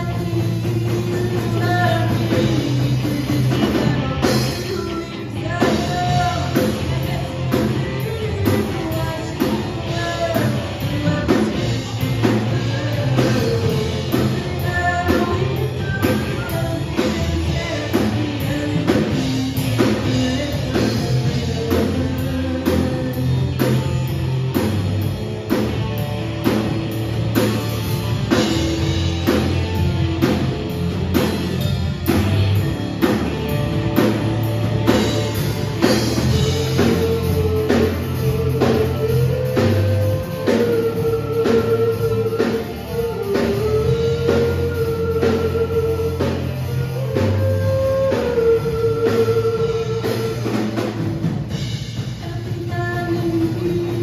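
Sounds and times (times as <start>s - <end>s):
bass guitar: 0.0s - 54.0s
drum kit beat: 0.0s - 54.0s
electric guitar: 0.0s - 54.0s
person singing: 0.0s - 54.0s.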